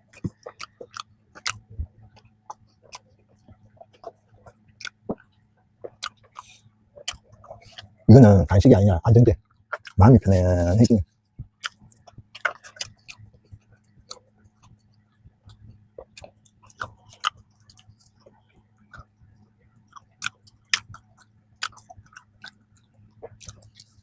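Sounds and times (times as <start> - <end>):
faint low hum: 0.0 - 24.0
mouth chewing bread: 0.0 - 24.0.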